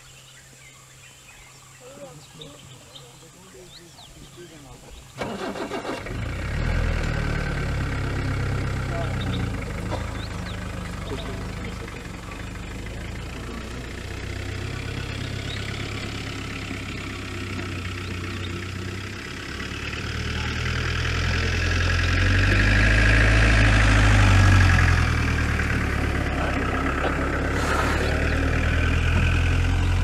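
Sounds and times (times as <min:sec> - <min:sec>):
vehicle engine idling: 0:00.2 - 0:30.0.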